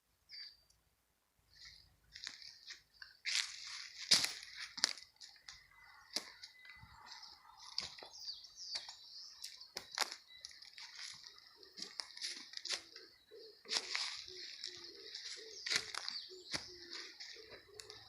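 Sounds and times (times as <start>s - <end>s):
forest birds singing: 0.0s - 18.0s.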